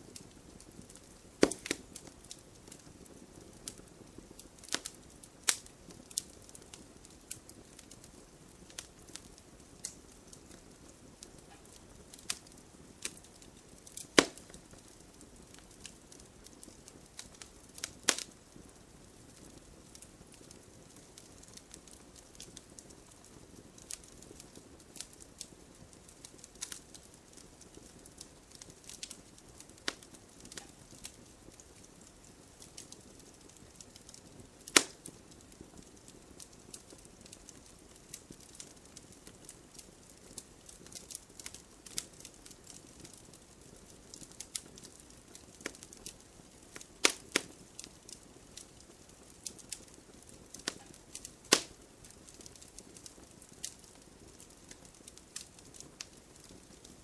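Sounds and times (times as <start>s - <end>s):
fire pops: 0.0s - 57.0s
wood fire crackling: 0.0s - 57.0s.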